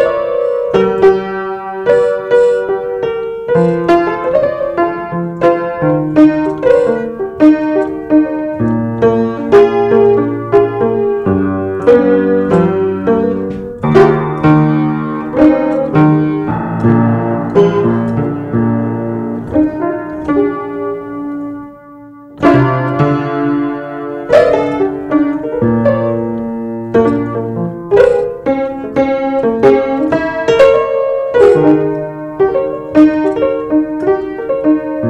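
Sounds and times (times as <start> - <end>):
piano melody: 0.0 - 35.0.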